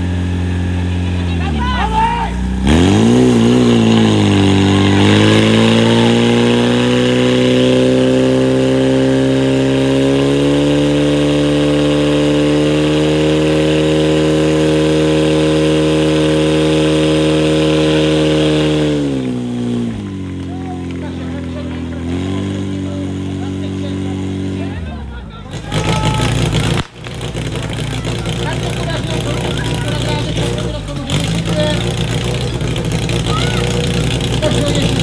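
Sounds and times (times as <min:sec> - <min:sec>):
fire pump engine running: 0:00.0 - 0:35.0.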